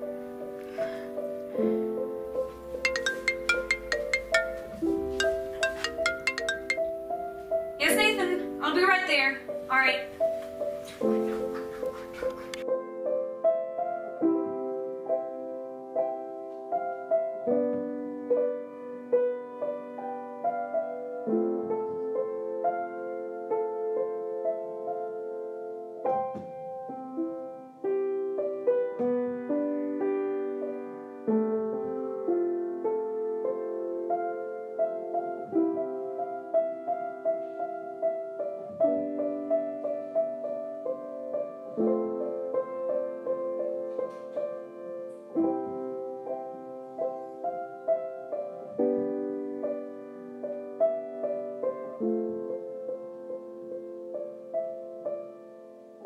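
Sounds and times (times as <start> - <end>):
gentle solo piano: 0.0 - 56.0.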